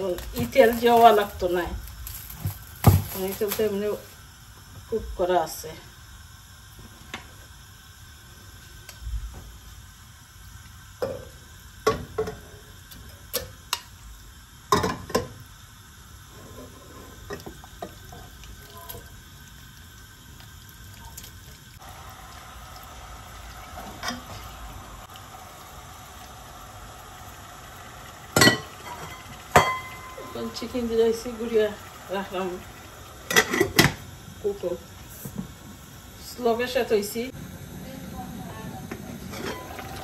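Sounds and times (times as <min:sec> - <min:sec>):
steady cooking hiss: 0:00.0 - 0:40.0.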